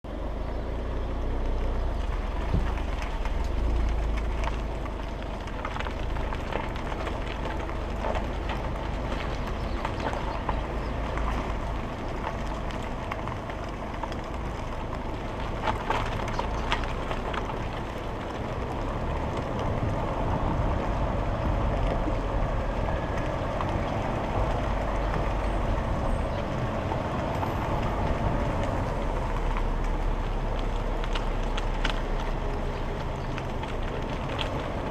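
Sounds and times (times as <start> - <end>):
car engine rumble: 0.0 - 34.9
road noise: 0.0 - 34.9.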